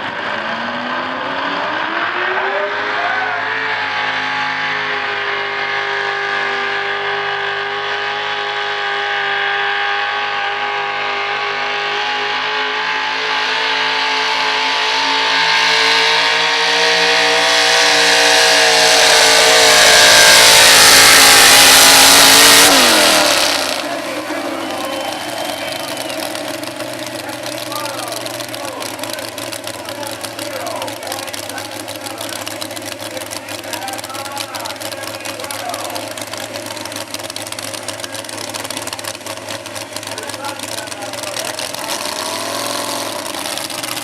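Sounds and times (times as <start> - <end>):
vehicle engine revving under load: 0.0 - 44.0.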